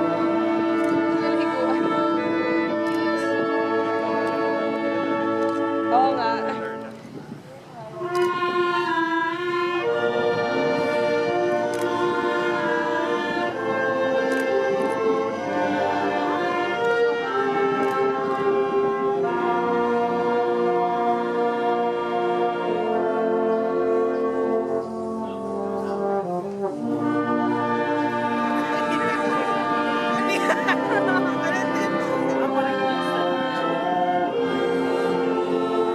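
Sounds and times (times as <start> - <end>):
orchestral music led by brass: 0.0 - 35.9.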